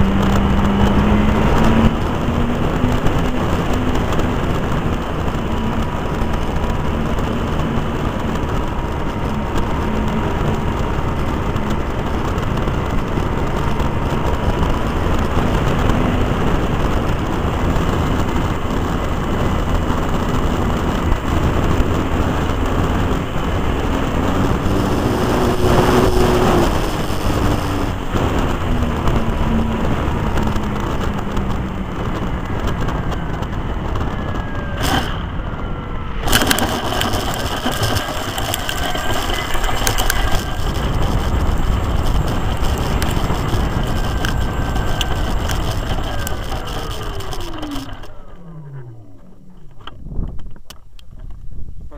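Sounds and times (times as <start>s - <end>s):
model aeroplane engine and wind: 0.0s - 51.9s.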